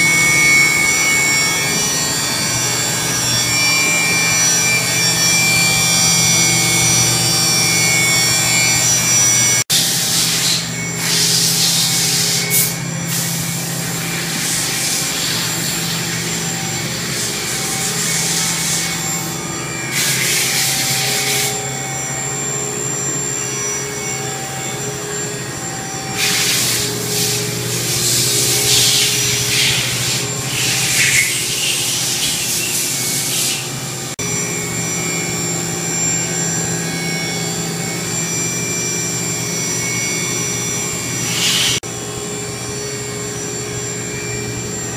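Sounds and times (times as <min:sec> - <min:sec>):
machine humming: 0:00.0 - 0:44.9.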